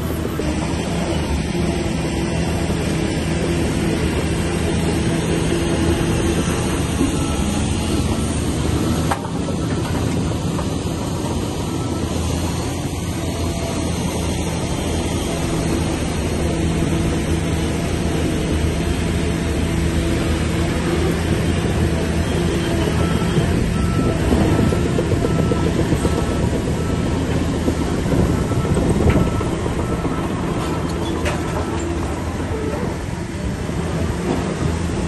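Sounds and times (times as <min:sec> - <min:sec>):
diesel earthmoving machinery running: 0:00.0 - 0:35.0.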